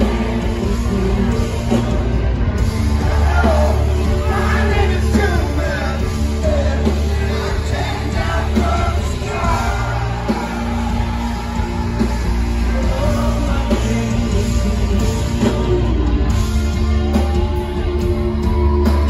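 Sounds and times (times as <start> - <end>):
live rock band playing: 0.0 - 19.0
person singing: 3.0 - 19.0.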